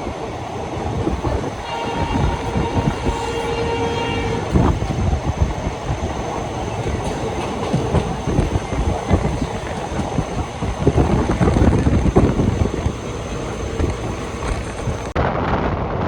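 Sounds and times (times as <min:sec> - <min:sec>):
train coach rumbling on track: 0:00.0 - 0:16.0.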